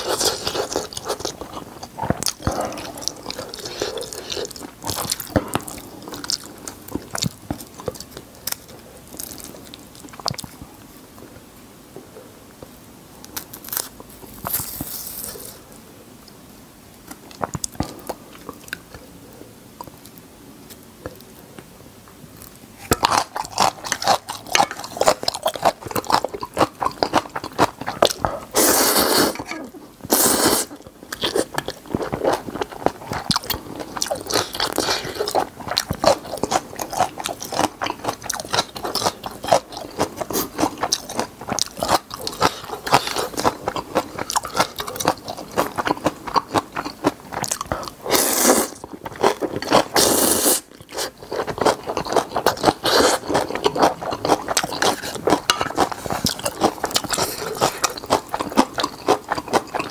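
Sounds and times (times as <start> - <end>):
wet chewing and crunching: 0.0 - 10.7, 22.4 - 59.9.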